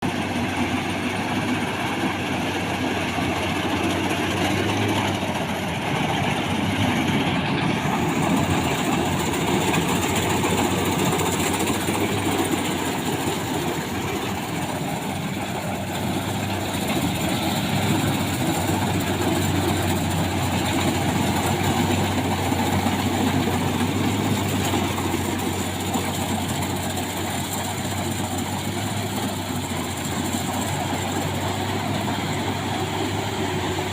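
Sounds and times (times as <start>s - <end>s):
combine harvester engine drone: 0.0s - 33.9s.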